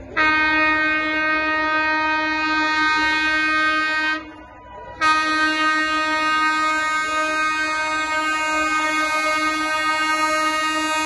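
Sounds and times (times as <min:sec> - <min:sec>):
locomotive horn blast: 0:00.0 - 0:11.0.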